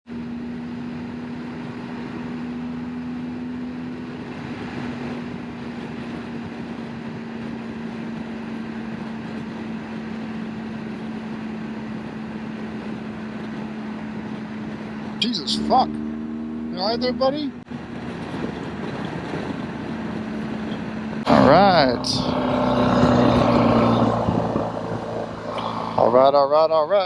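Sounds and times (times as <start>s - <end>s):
road and wind noise: 0.1s - 27.0s
motorcycle engine running: 0.2s - 27.0s.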